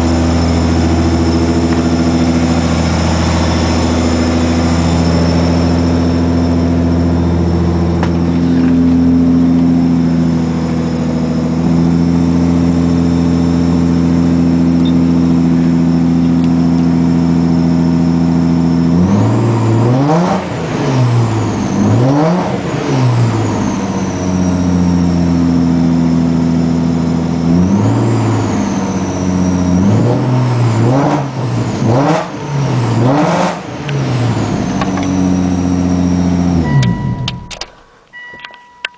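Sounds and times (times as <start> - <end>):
car engine revving unevenly: 0.0 - 37.4.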